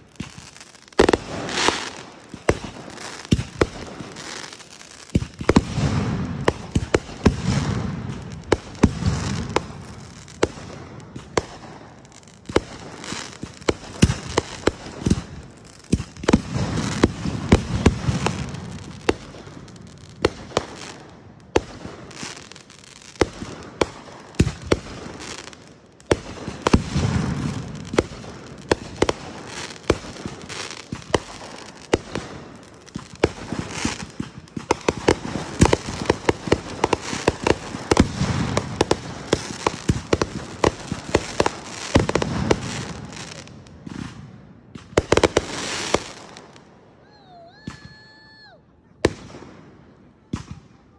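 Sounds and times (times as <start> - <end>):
fireworks booming: 0.0 - 46.7
fireworks cracking and popping: 0.0 - 47.0.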